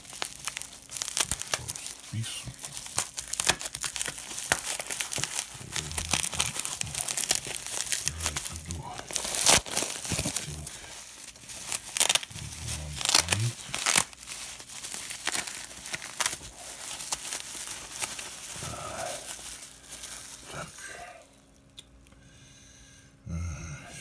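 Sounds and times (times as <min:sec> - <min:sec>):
bubble wrap crinkling and crackling: 0:00.0 - 0:22.1.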